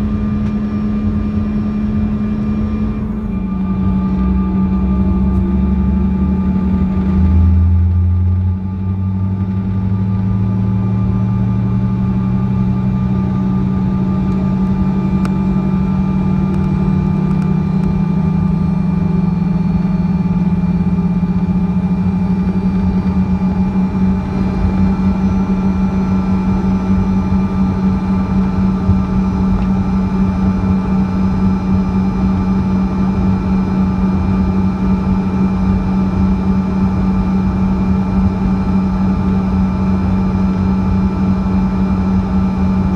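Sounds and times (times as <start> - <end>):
jet engines humming in cabin: 0.0 - 42.9.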